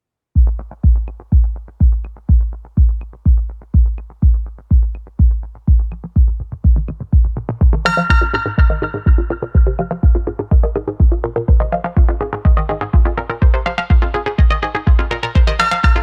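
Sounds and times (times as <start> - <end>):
deep kick-drum beat: 0.4 - 16.0.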